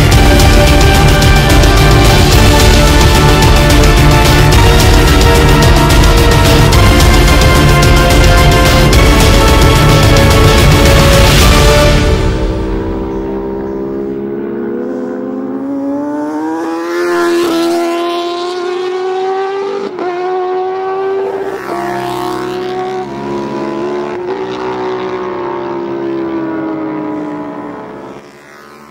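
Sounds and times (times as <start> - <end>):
racing motorcycle engine revving: 0.0 - 28.9.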